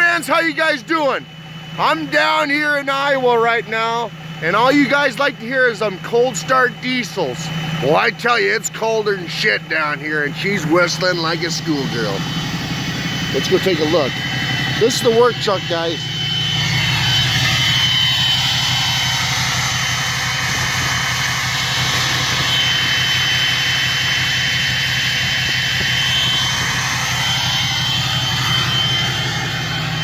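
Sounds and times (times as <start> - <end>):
diesel engine idling: 0.0 - 30.0
turbo whistling: 0.0 - 30.0.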